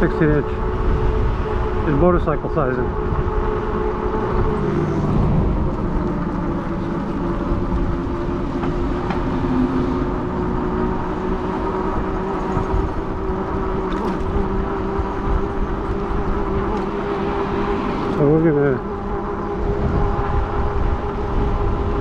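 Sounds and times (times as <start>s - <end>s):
low rumble: 0.0s - 18.2s
e-bike drive hum: 0.0s - 22.0s
tire rolling on road: 2.8s - 22.0s.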